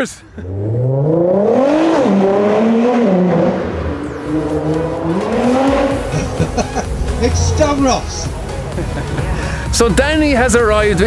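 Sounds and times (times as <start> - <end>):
car engine accelerating: 0.4 - 11.0.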